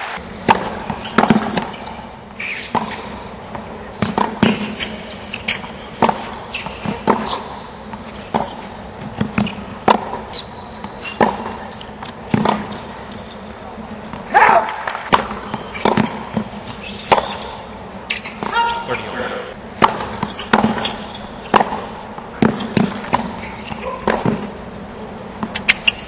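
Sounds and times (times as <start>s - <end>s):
low stadium hum: 0.0s - 26.0s
racket hitting tennis ball: 0.1s - 26.0s
tennis ball bouncing: 0.2s - 18.8s, 19.5s - 26.0s.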